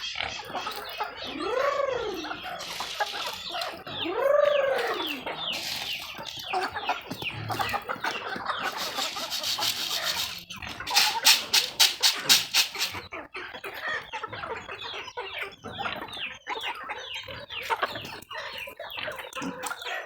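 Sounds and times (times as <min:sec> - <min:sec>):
chicken drawn-out calls: 0:00.0 - 0:20.0
chickens clucking and chirping: 0:00.0 - 0:20.0.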